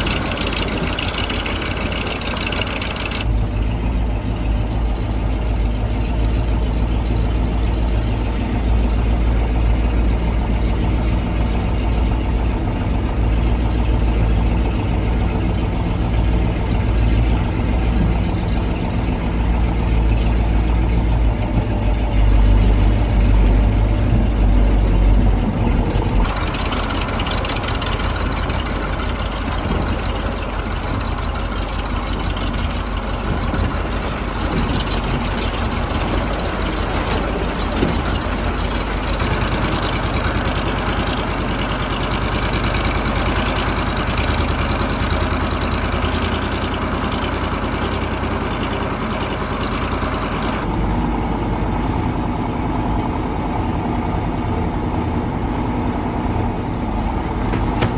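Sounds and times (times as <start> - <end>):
diesel truck engine rumbling: 0.0 - 57.9.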